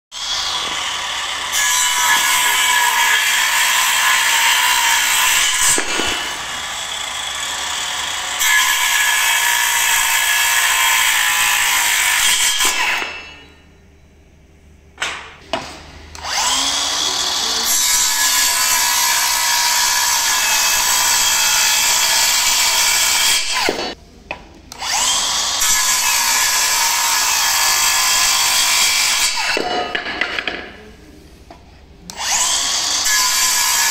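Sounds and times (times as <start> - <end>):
circular saw cutting wood: 0.1 - 13.4, 16.1 - 24.0, 24.7 - 29.6, 32.1 - 33.9.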